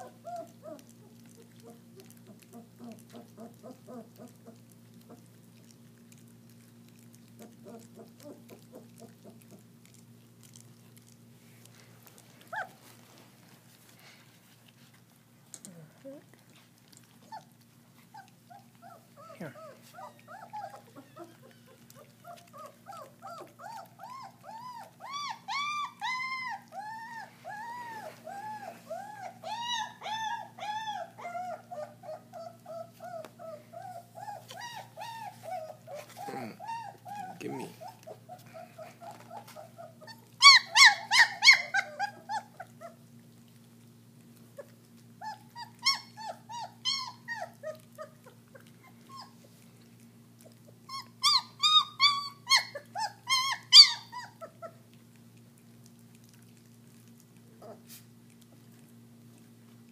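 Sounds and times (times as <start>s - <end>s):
puppies whining and yelping: 0.0s - 15.0s, 16.0s - 59.9s.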